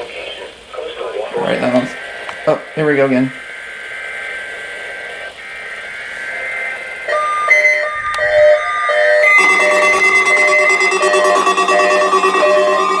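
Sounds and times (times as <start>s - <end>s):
alarm tones: 0.0s - 13.0s
digital warbling header tones: 0.0s - 13.0s
weather radio alert beeps: 0.0s - 13.0s.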